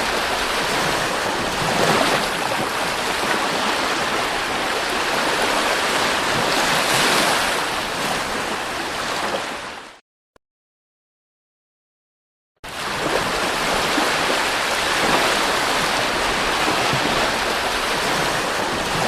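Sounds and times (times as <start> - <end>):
sea surf washing on beach: 0.0 - 10.0, 12.7 - 19.0.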